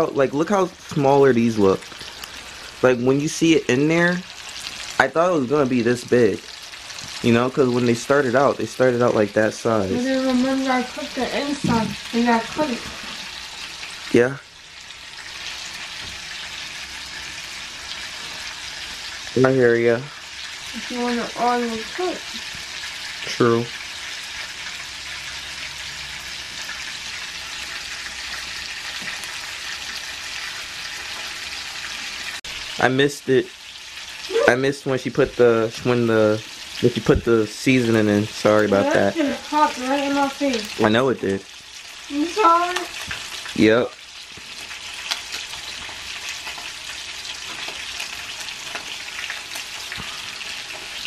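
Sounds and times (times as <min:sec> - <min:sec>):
chicken sizzling in hot oil: 0:00.0 - 0:51.0.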